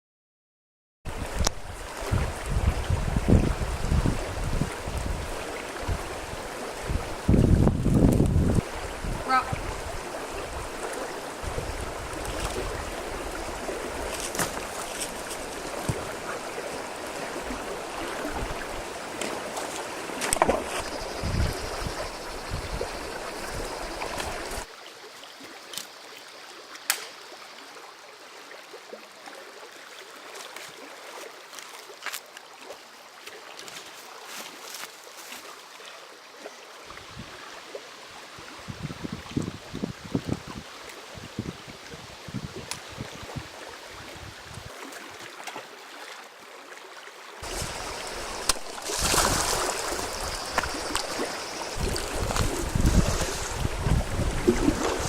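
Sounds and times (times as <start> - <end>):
rushing river water: 1.1 - 55.0.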